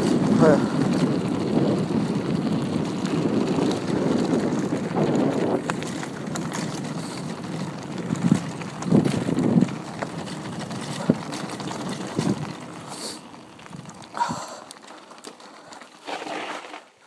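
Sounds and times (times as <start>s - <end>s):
bicycle tyres crunching on gravel: 0.0s - 17.0s
bike rattling: 0.0s - 17.0s.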